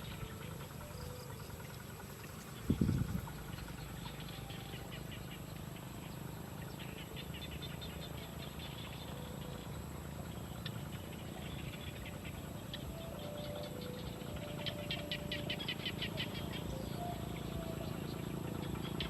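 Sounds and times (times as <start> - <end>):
nestling birds cheeping: 0.0 - 19.0
steady low hum: 0.0 - 19.0.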